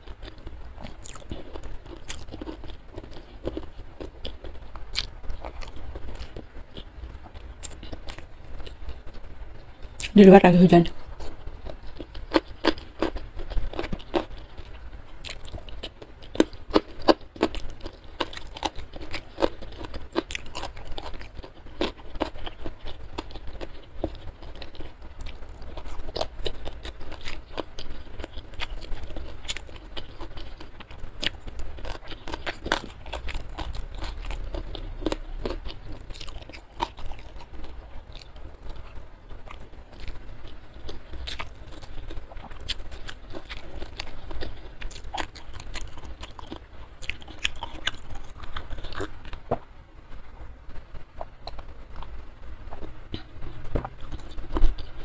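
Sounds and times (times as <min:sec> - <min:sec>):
person chewing and crunching food: 0:00.0 - 0:49.8, 0:50.7 - 0:55.0.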